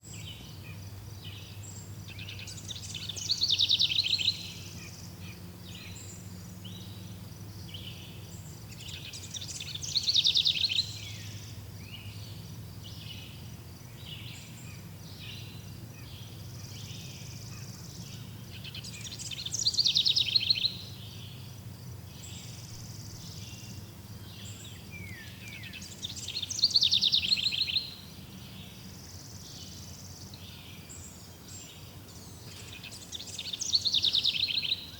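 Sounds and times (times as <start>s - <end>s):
faint low hum: 0.0s - 34.0s
bird trilling song: 0.0s - 34.9s
soft bird chirps: 0.0s - 34.9s.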